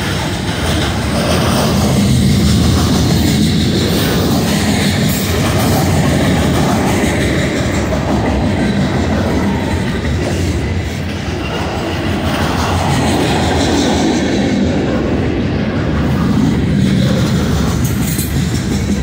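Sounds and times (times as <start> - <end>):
train wheels rumbling on rail: 0.0 - 19.0
wheels clacking over rail joints: 0.0 - 19.0.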